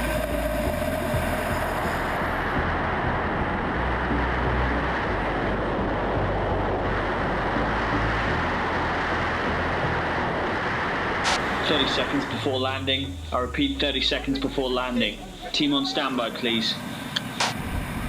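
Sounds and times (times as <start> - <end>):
wind rushing over microphone: 0.0 - 15.8, 16.4 - 18.0.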